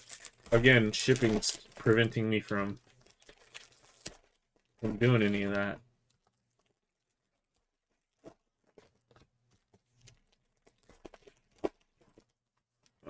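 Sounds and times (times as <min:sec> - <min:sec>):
foil pack crinkling: 0:00.0 - 0:13.0.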